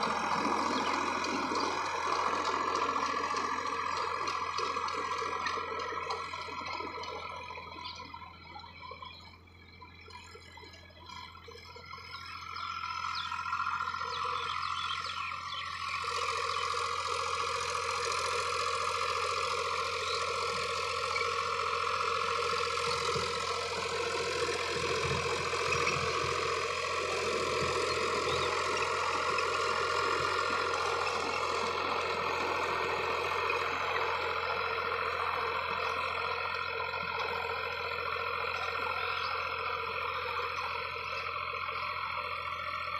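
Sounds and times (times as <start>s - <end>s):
rotavator whine: 0.0s - 42.9s
tractor diesel engine under load: 0.0s - 42.9s.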